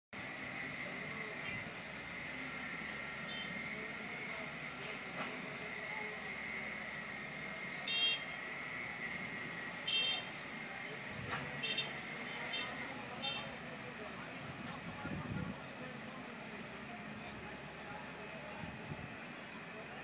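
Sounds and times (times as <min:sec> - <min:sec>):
excavator engine drone: 0:00.2 - 0:20.0.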